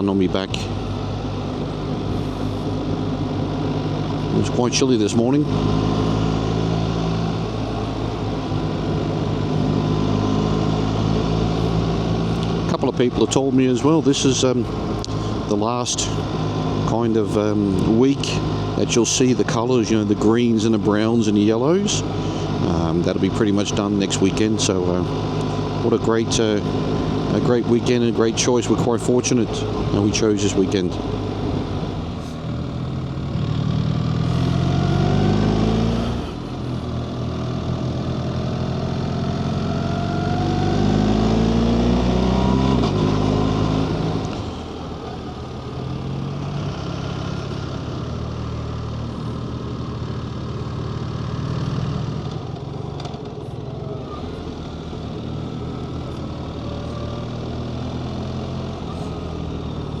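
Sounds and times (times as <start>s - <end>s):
motorcycle engine: 0.0s - 60.0s
wind and road noise: 0.0s - 60.0s.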